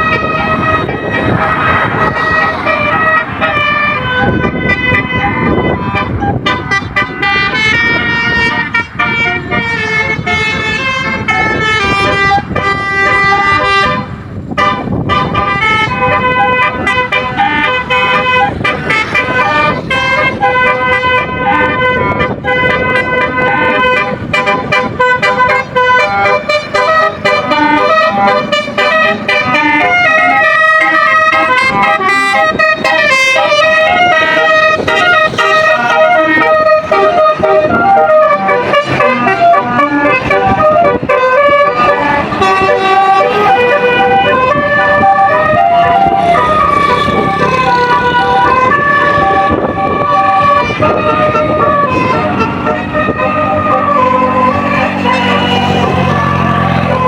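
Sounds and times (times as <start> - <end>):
multi-tone bus horn tune: 0.0 - 57.0.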